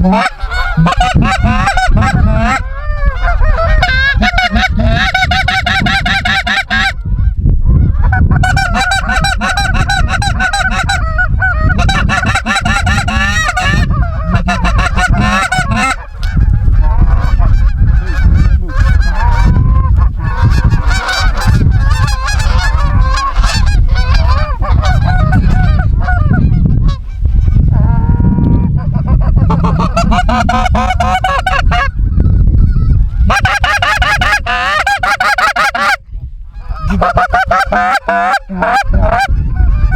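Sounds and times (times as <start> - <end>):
geese honking: 0.0 - 31.9, 33.3 - 36.0, 36.6 - 39.9
low rumble: 0.0 - 34.6.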